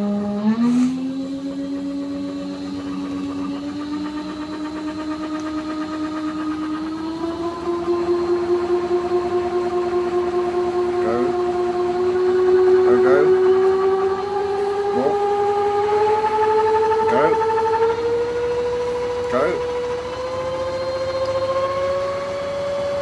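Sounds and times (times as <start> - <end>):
motor driven generator whine: 0.0 - 23.0.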